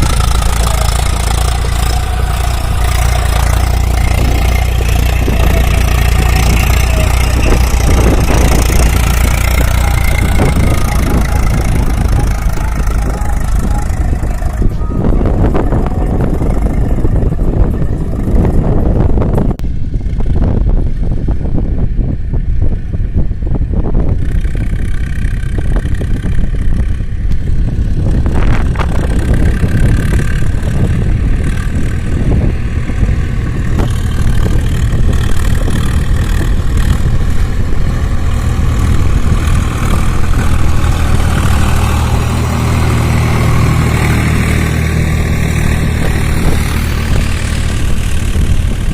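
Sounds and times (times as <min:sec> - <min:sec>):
tractor engines running: 0:00.0 - 0:48.9.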